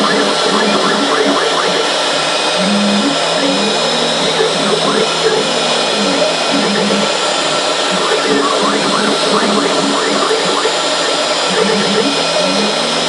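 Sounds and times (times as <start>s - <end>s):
cutter milling foam: 0.0s - 13.0s
drive motor tone: 0.0s - 13.0s
router spindle running: 0.0s - 13.0s.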